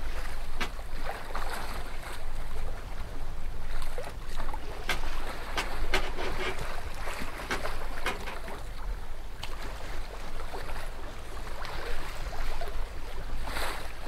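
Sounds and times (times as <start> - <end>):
water sloshing: 0.0 - 14.0.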